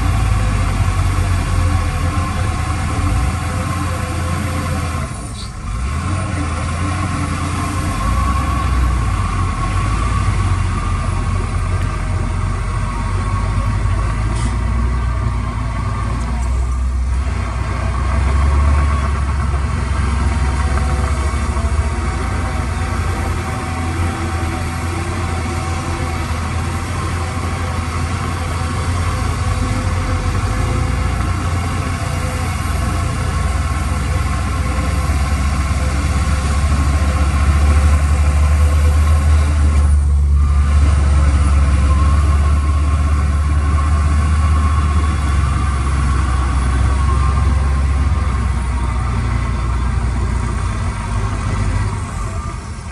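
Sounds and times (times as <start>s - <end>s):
diesel engine deep rumble: 0.0s - 52.9s.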